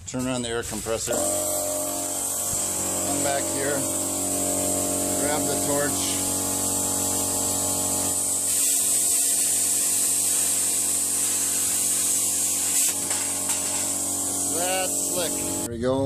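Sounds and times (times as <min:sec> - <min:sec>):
plasma cutter hissing: 0:00.8 - 0:15.7
air compressor humming: 0:01.1 - 0:15.7.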